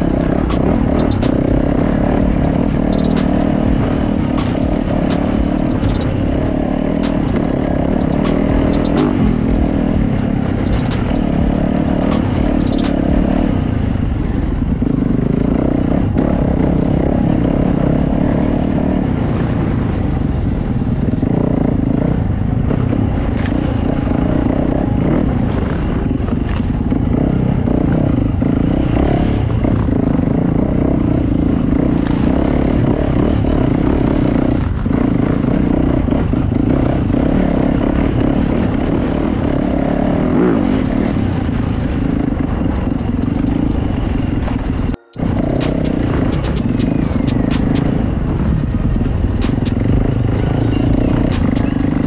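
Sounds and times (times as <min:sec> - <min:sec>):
clatters over rough trail: 0:00.0 - 0:52.0
dirt bike engine running: 0:00.0 - 0:52.0.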